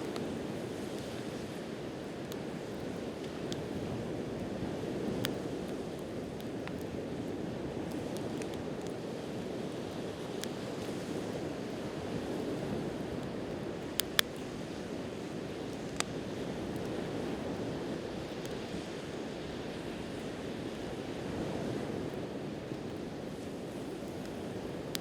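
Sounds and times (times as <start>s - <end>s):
campfire pops and crackles: 0.0s - 25.0s.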